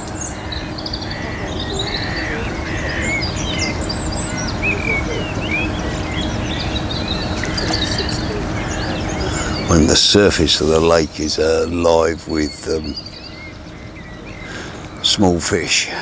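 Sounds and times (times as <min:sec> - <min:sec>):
warbler singing: 0:00.0 - 0:16.0.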